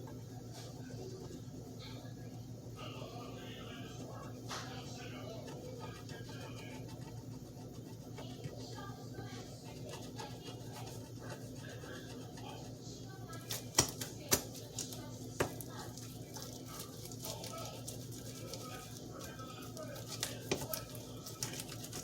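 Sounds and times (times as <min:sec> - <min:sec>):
faint background voices: 0:00.0 - 0:22.0.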